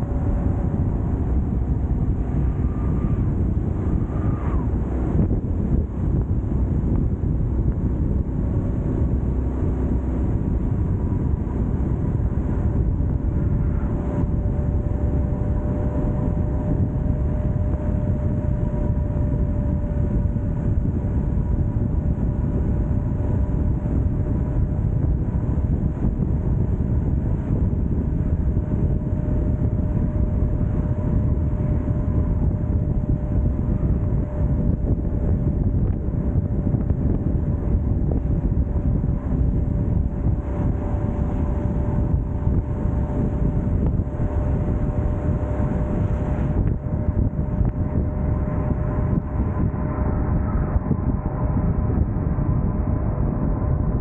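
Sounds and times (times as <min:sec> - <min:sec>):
highway road rumble: 0:00.0 - 0:54.0
wind on microphone: 0:00.0 - 0:54.0.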